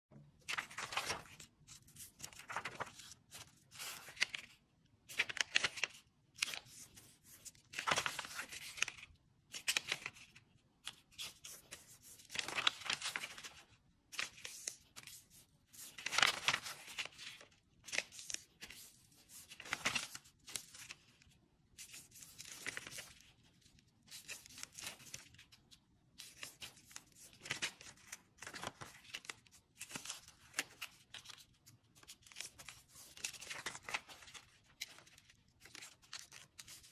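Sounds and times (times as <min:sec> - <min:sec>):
paper rustling as folded: 0:00.4 - 0:36.9.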